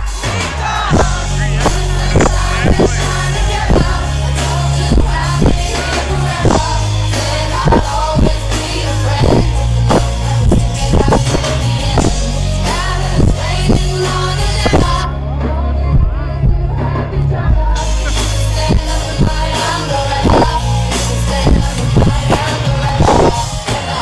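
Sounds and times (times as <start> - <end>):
heavy bass line: 0.0 - 24.0
steady drum beat: 0.0 - 24.0
woman singing: 0.0 - 24.0.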